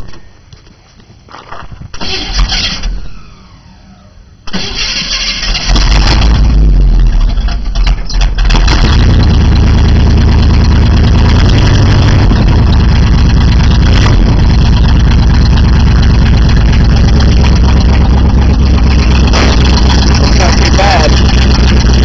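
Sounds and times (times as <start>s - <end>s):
loud vee eight engine running: 3.2s - 22.0s.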